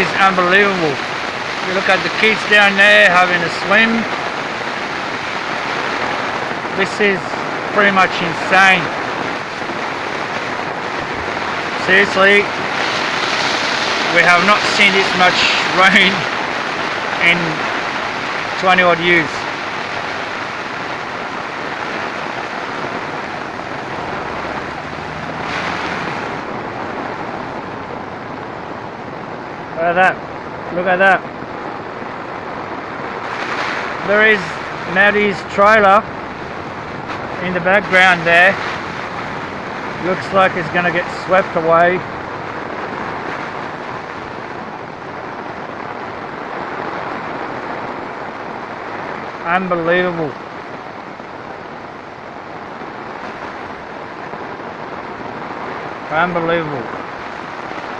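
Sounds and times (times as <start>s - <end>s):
heavy rain: 0.0s - 57.9s
rushing floodwater: 0.0s - 57.9s.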